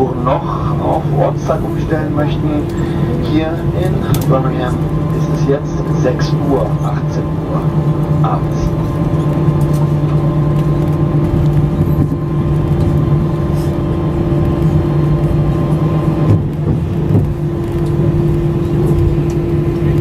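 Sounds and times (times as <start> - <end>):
cabin hum tones: 0.0 - 20.0
jet engines low rumble: 0.0 - 20.0.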